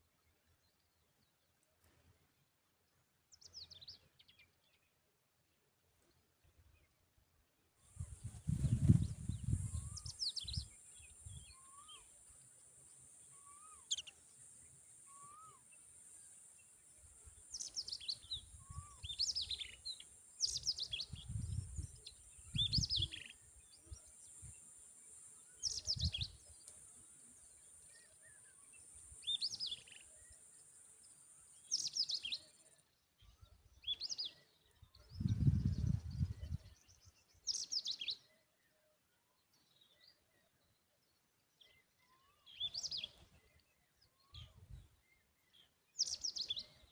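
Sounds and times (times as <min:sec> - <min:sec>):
bird chirping: 0:00.0 - 0:07.0, 0:07.8 - 0:46.9.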